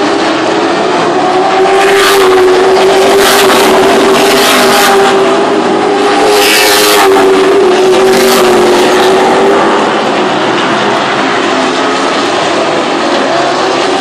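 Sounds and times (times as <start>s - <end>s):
cars sweeping past: 0.0s - 14.0s
race car engines at full throttle: 0.0s - 14.0s.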